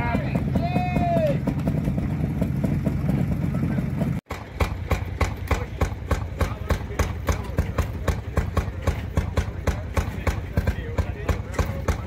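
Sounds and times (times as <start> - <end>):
small engine idling putt-putt: 0.0 - 12.0.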